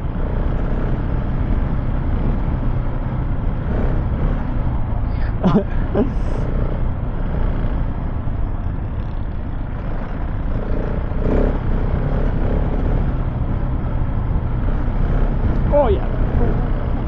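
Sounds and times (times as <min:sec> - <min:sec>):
motorcycle engine running off-road: 0:00.0 - 0:17.0.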